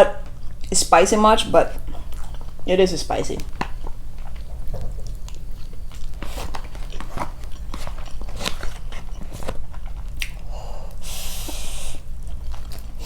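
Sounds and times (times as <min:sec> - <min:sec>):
chewing and biting crunches: 0:01.4 - 0:13.0.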